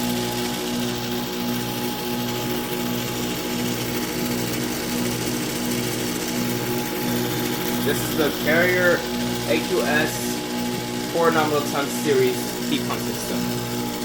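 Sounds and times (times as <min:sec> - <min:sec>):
heat pump compressor hum: 0:00.0 - 0:14.0.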